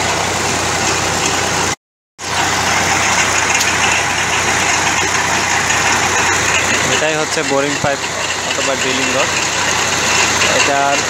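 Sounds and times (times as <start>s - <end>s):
piling rig engine running: 0.0s - 11.0s.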